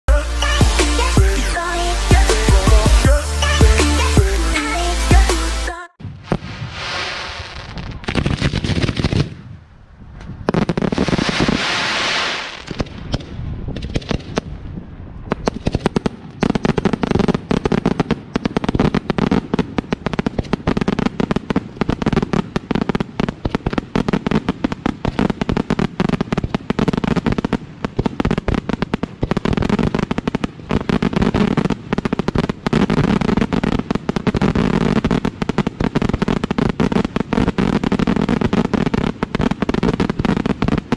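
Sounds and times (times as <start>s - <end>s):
fireworks bangs and crackles: 5.1s - 40.9s.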